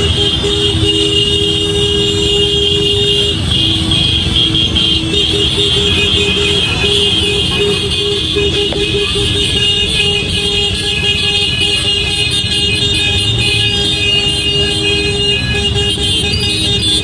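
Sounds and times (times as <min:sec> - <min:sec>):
road vehicle rumble: 0:00.0 - 0:17.0.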